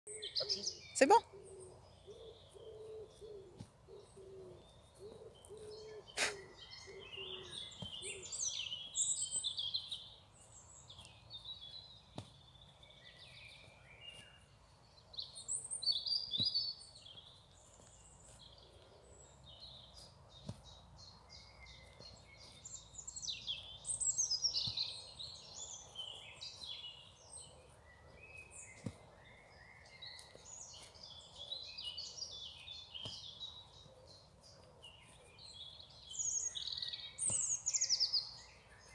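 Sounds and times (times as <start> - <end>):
songbirds chirping and trilling: 0.1 - 38.9.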